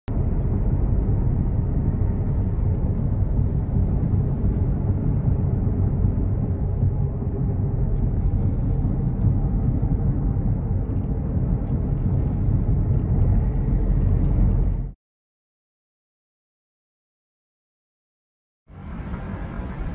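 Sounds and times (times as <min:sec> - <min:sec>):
road and wind noise in car: 0:00.1 - 0:15.0, 0:18.7 - 0:19.9.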